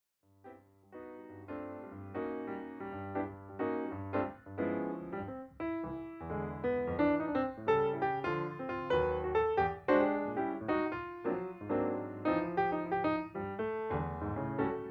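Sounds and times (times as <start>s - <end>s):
gentle piano music: 0.4s - 14.9s.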